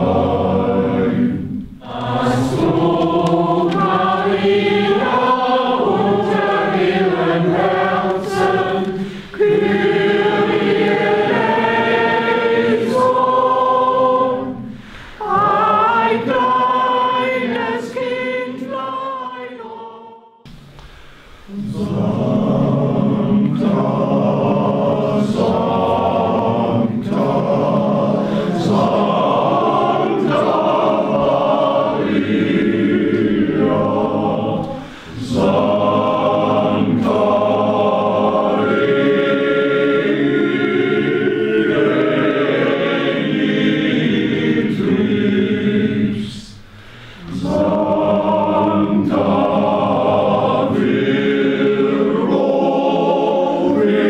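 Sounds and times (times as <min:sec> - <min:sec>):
men's choir singing: 0:00.0 - 0:20.3, 0:21.4 - 0:54.0.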